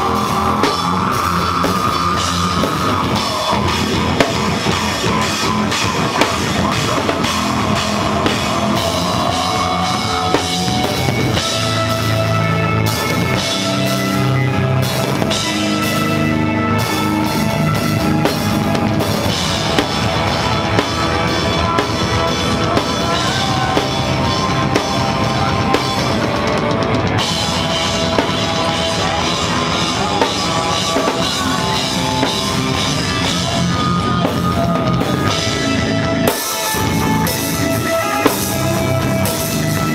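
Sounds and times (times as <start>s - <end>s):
drum kit: 0.0s - 39.9s
electric guitars: 0.0s - 39.9s
metal band playing: 0.0s - 39.9s.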